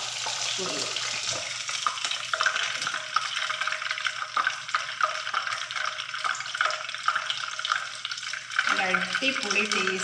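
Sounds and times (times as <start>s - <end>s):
chicken frying in oil: 0.0s - 10.0s.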